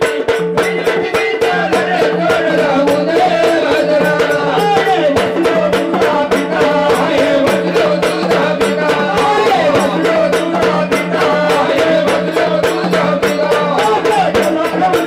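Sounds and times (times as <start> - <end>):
quick percussion beats: 0.0 - 15.0
person singing: 0.6 - 15.0.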